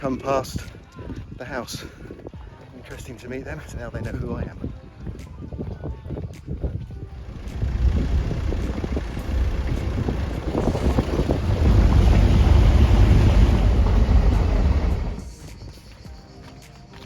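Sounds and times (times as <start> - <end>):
wind buffeting microphone: 0.0 - 15.6.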